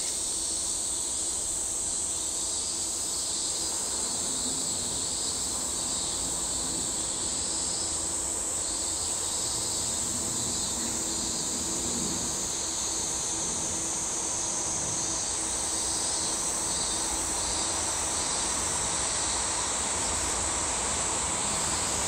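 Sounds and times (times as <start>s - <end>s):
cicadas droning: 0.0s - 22.0s.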